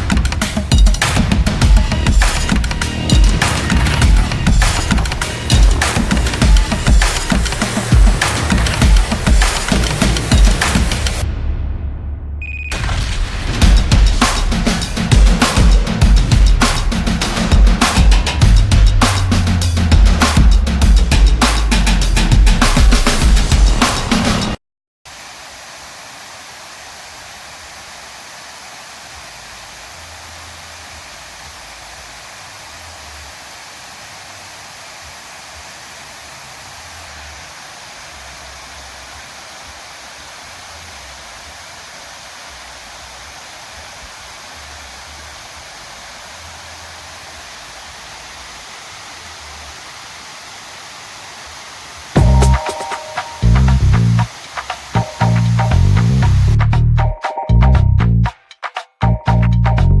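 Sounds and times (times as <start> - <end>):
steady rushing hiss: 0.0 - 11.3, 12.7 - 56.9.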